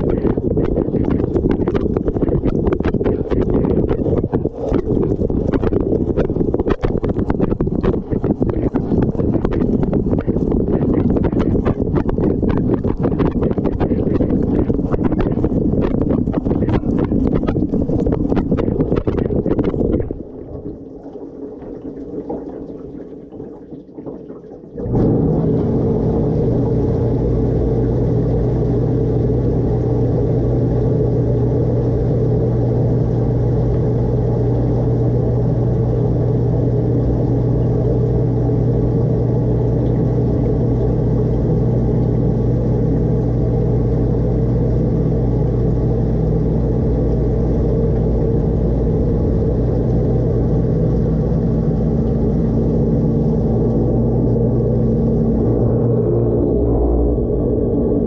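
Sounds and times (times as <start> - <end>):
dishwasher motor hum: 0.0 - 58.0.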